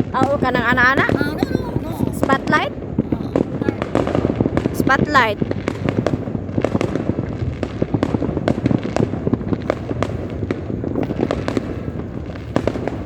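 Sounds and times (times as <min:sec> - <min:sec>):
firecrackers crackling and popping: 0:00.0 - 0:13.0
low rumble of explosions: 0:00.0 - 0:13.0.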